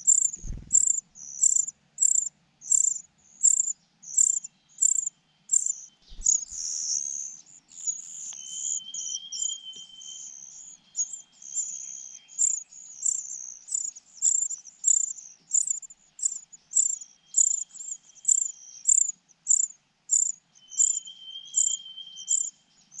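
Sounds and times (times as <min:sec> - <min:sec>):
nestlings begging chirps: 0:00.0 - 0:23.0.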